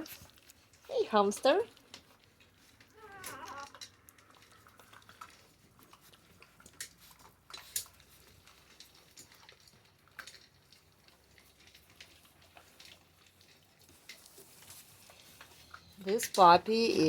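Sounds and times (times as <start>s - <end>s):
puppies moving and chewing: 0.0s - 17.0s.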